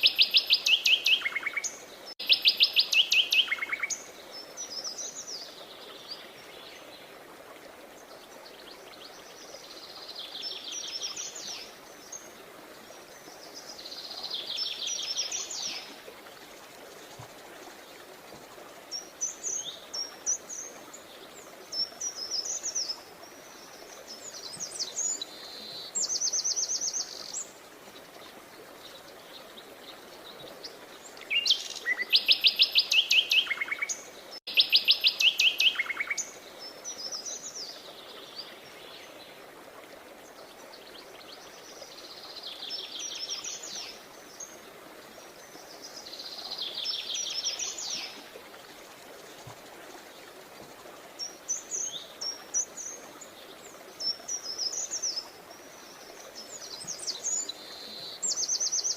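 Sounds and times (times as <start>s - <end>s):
songbirds trilling and chirping: 0.0s - 7.2s, 7.9s - 58.9s
faint background hiss: 0.0s - 58.9s.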